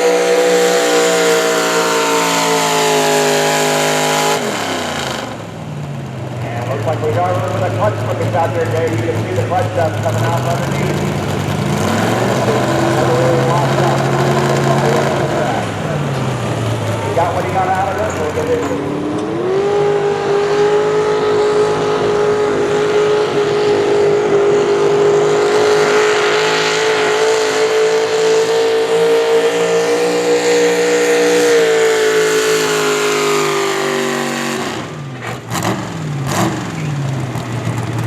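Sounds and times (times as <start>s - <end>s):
tractor engine revving: 0.0s - 38.0s.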